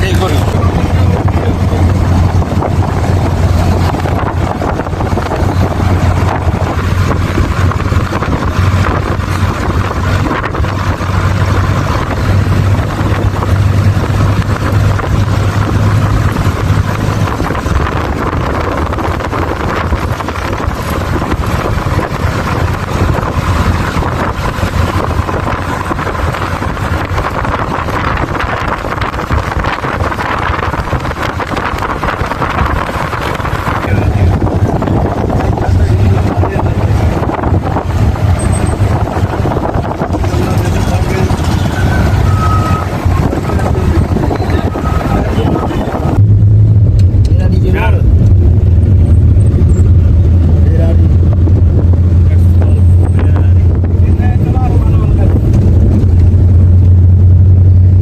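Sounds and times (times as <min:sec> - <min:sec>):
vehicle engine humming: 0:00.0 - 0:58.0
wind noise on microphone: 0:00.0 - 0:58.0.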